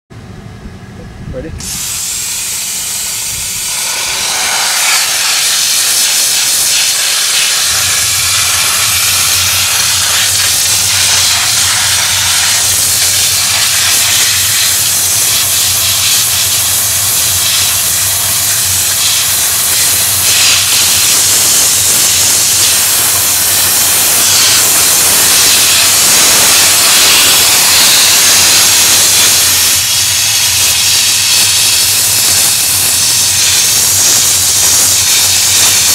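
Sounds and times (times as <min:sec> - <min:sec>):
steady low hum: 0:00.1 - 0:35.9
steam jet hissing: 0:01.6 - 0:35.9.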